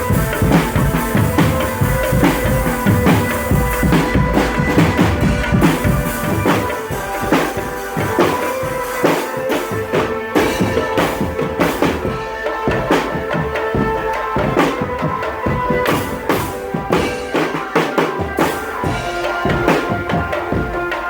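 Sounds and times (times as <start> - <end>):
held melodic tone: 0.0 - 21.0
marching drums: 0.0 - 21.0.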